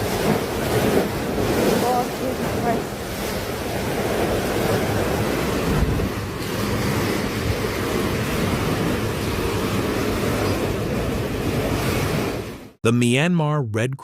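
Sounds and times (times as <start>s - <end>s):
wind buffeting microphone: 0.0s - 12.4s
rush of surging water: 0.0s - 12.7s.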